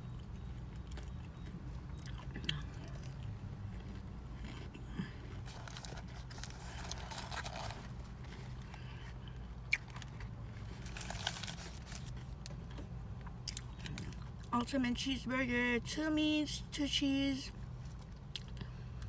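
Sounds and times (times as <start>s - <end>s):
chewing crunchy food: 0.0s - 14.5s, 17.7s - 19.0s
steady low hum: 0.0s - 19.0s.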